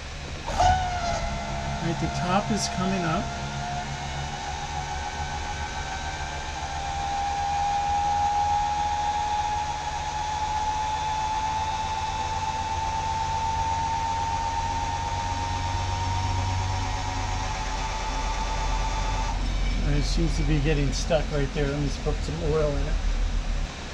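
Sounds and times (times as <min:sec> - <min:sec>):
hydraulic pump motor whining: 0:00.0 - 0:22.8.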